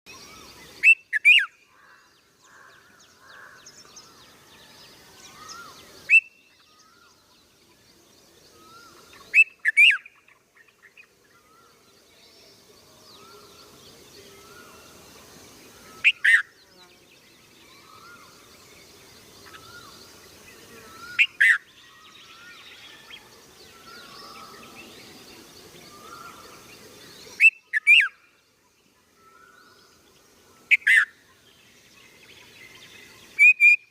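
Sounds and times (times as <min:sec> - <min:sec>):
soft bird twittering: 0:00.1 - 0:33.9.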